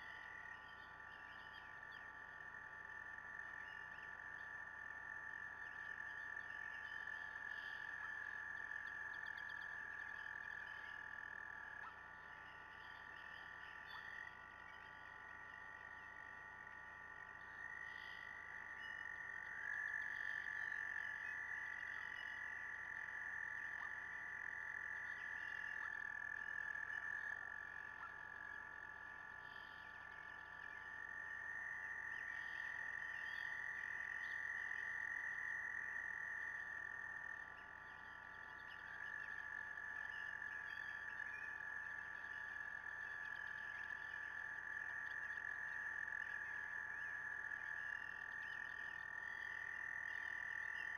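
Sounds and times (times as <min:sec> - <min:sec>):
frogs trilling: 0:00.0 - 0:50.9.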